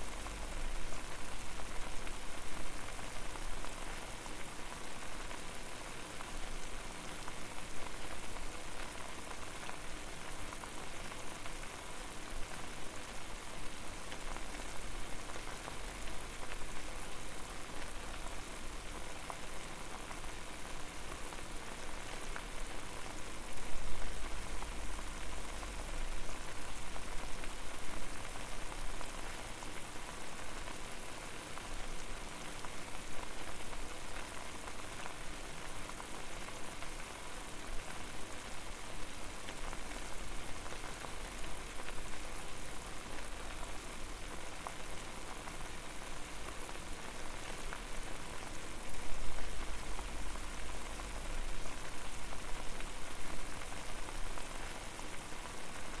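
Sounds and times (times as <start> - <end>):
water boiling and bubbling: 0.0 - 56.0.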